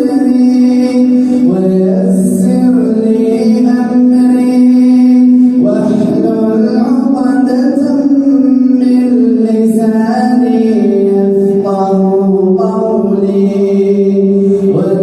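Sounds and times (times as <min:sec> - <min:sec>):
man chanting recitation: 0:00.0 - 0:15.0.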